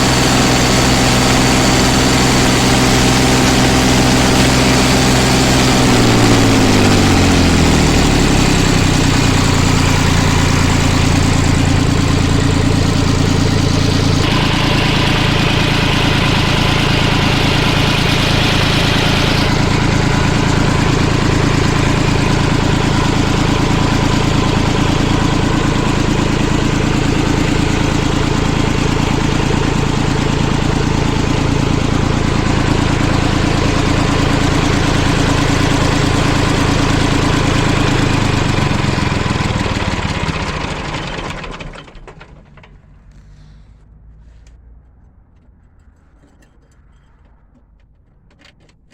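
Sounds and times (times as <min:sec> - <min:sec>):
tractor engine idling: 0:00.0 - 0:48.9.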